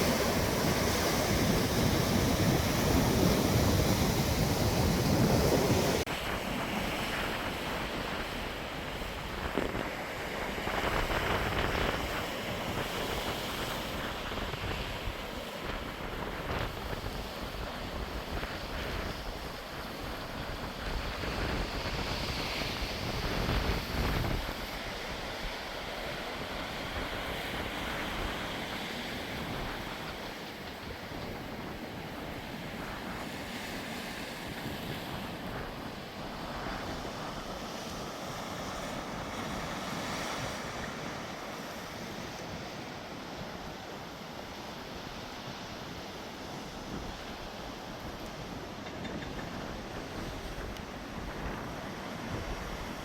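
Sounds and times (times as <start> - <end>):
wind buffeting microphone: 0.0 - 43.8, 45.5 - 53.0
sea waves washing on shore: 0.0 - 53.0.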